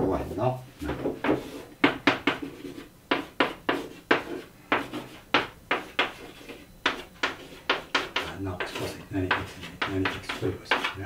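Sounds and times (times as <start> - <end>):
chalk tapping and scraping on chalkboard: 0.8 - 11.0.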